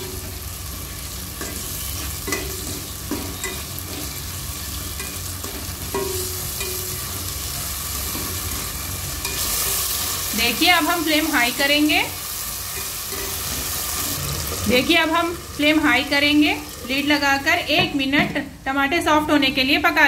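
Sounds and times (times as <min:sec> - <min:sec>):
vegetables sizzling in hot oil: 0:00.0 - 0:18.2.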